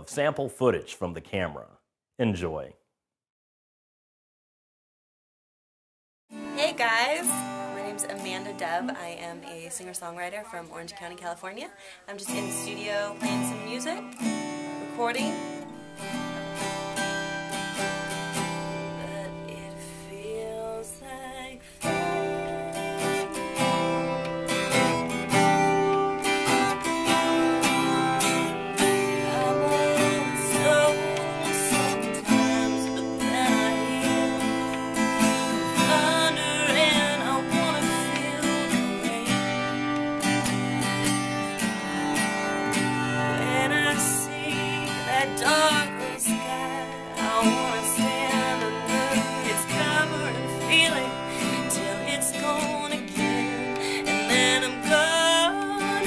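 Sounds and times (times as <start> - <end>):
acoustic guitar strumming: 6.3 - 11.6, 12.2 - 56.0
woman singing: 6.4 - 16.9, 18.1 - 40.9, 41.7 - 56.0.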